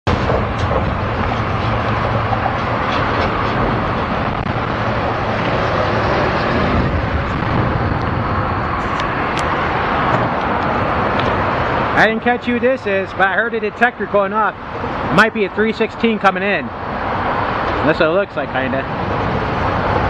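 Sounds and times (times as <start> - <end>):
road traffic rumble and hiss: 0.1 - 20.0.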